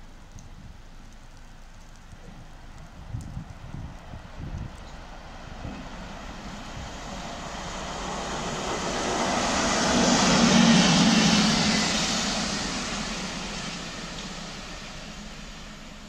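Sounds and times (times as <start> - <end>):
wheels rumbling on rail: 0.0 - 16.0
locomotives passing at speed: 2.8 - 16.0.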